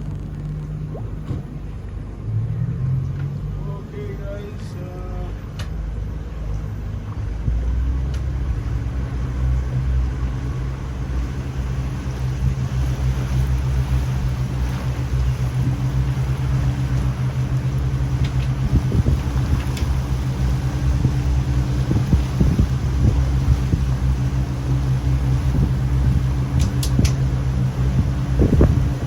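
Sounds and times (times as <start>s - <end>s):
speed boat engine humming: 0.0s - 29.0s.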